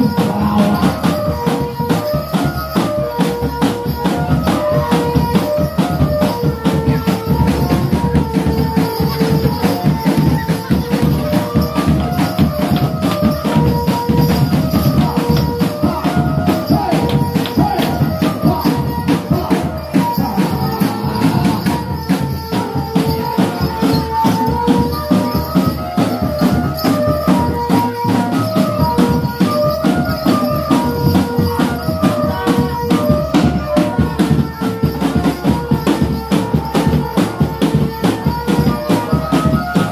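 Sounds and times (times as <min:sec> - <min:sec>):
fast dense percussion: 0:00.0 - 0:39.9
jingling shaken sounds: 0:00.0 - 0:39.9.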